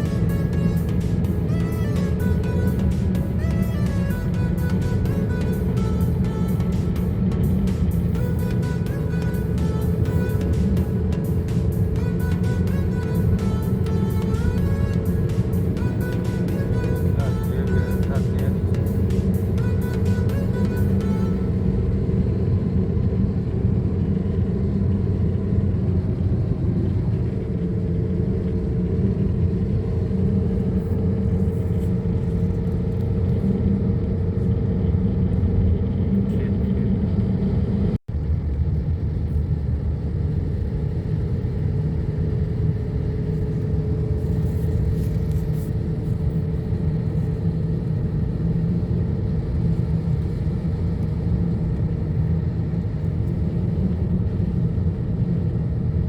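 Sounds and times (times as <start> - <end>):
vehicle engine and road drone: 0.0 - 56.0.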